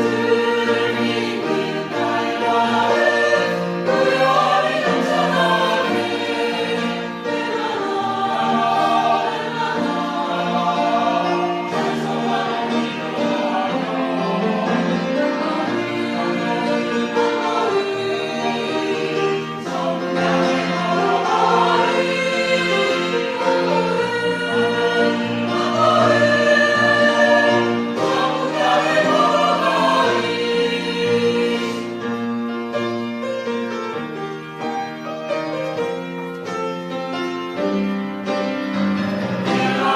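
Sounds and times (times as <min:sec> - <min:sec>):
choir singing sustained chords: 0:00.0 - 0:32.2, 0:39.1 - 0:39.9.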